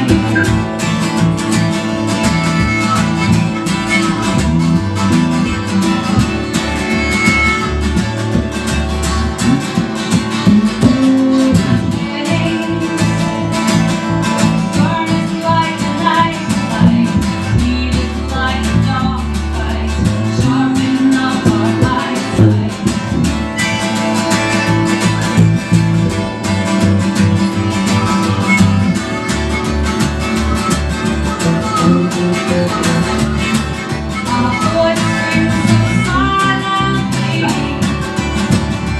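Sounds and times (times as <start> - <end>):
acoustic guitar: 0.0 - 38.9
harmonica: 0.0 - 38.9.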